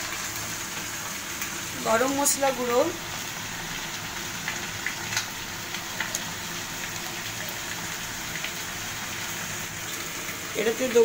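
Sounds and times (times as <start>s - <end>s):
chicken and onion frying in oil: 0.0s - 11.0s.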